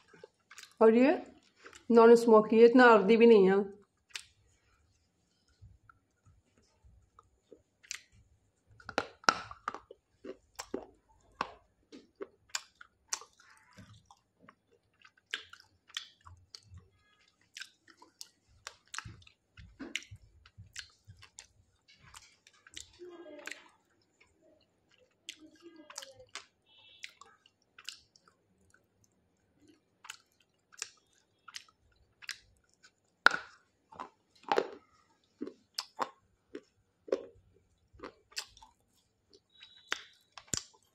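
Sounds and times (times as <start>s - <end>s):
person chewing crunchy clay: 0.0s - 1.9s, 3.8s - 4.5s, 7.0s - 40.9s.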